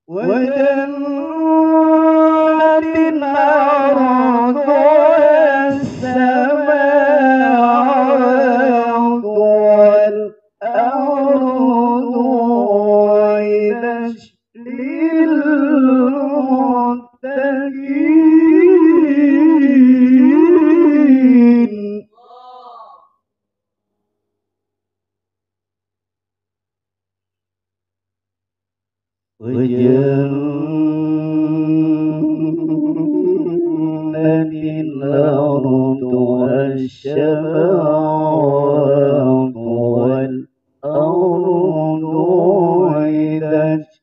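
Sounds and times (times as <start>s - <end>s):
man chanting into a microphone: 0.1s - 23.0s, 29.4s - 44.0s.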